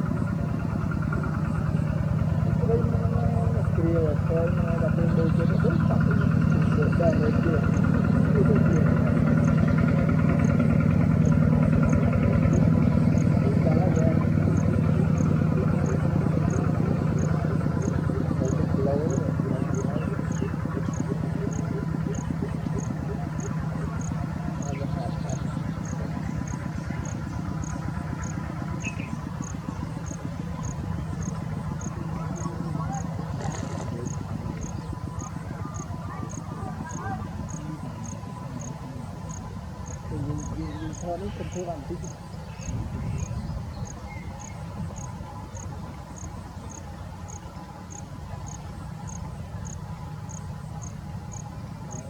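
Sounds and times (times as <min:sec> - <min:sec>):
cricket chirping: 0:00.0 - 0:52.0
engine running with pulsing rumble: 0:00.0 - 0:52.0.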